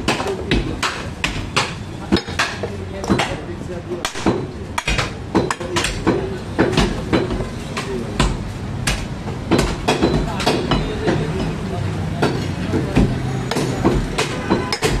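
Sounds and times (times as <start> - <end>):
cleavers chopping on wooden blocks: 0.0 - 15.0.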